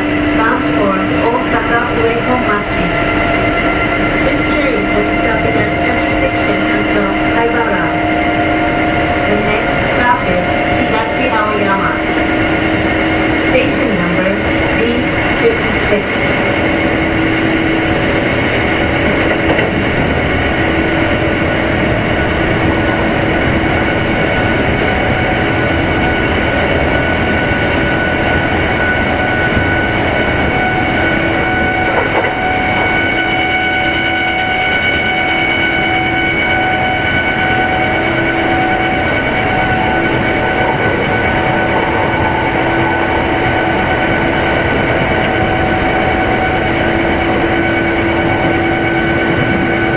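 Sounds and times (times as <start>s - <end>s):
electric train motor whine: 0.0s - 49.9s
wheels rumbling on track: 0.0s - 49.9s.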